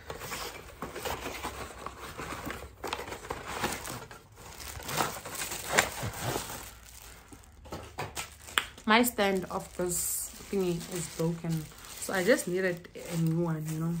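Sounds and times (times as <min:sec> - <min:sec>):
plastic bag crinkling: 0:00.3 - 0:14.0.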